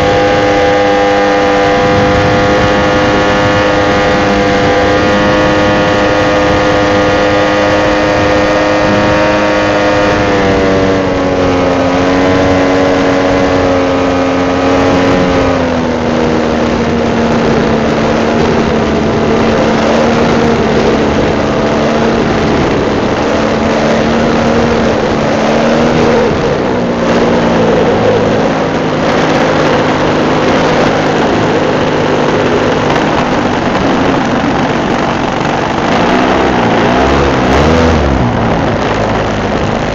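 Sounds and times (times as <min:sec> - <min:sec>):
model airplane motor running: 0:00.0 - 0:39.9
rushing air: 0:00.0 - 0:39.9.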